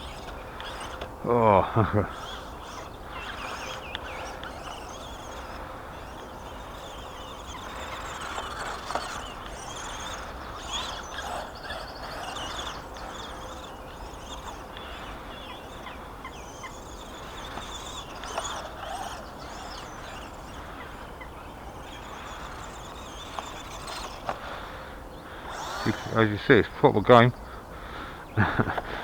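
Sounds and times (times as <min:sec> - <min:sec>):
small electric motor whining: 0:00.0 - 0:29.0.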